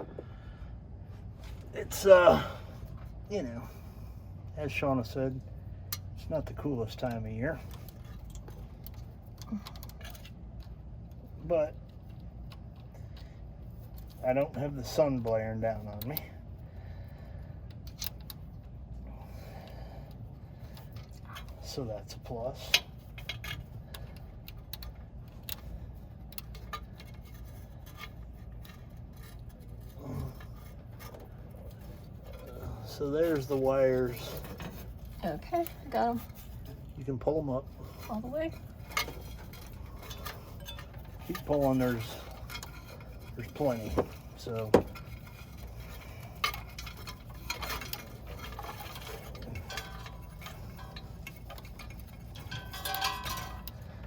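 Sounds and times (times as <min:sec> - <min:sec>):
low background rumble: 0:00.0 - 0:54.0
wires and tools rattling: 0:01.0 - 0:54.0.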